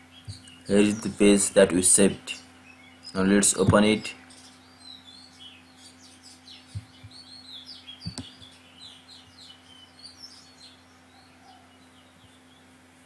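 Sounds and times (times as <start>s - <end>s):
birds chirping: 0.0s - 13.0s
faint steady hum: 0.0s - 13.0s.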